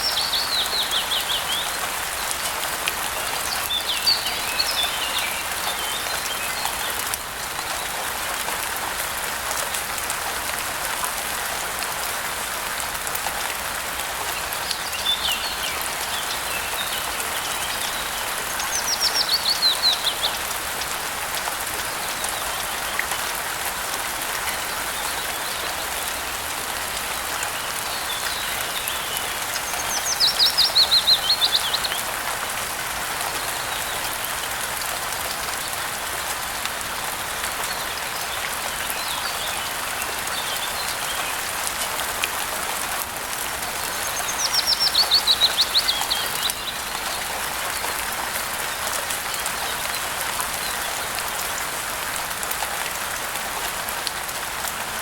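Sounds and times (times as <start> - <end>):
rain hiss: 0.0 - 55.0.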